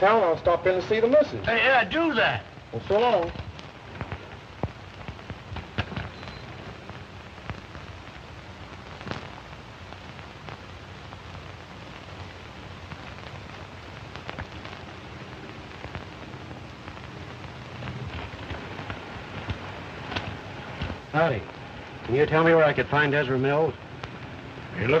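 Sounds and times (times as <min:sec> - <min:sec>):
film soundtrack hiss and crackle: 0:00.0 - 0:25.0
pops and clicks: 0:02.8 - 0:22.2, 0:23.8 - 0:24.8.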